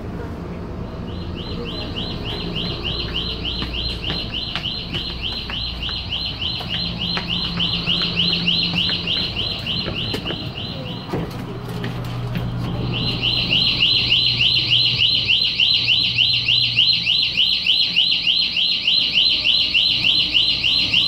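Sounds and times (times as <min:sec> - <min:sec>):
low train rumble: 0:00.0 - 0:17.1.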